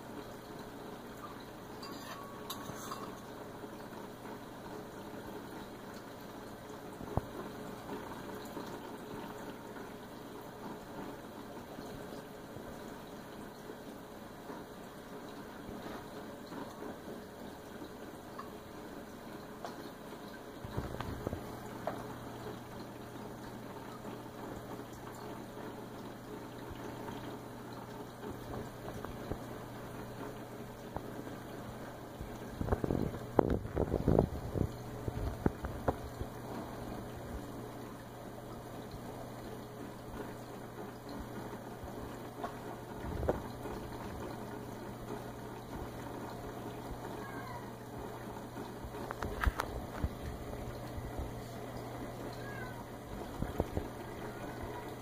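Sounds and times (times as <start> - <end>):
aquarium water trickling and bubbling: 0.0 - 55.0.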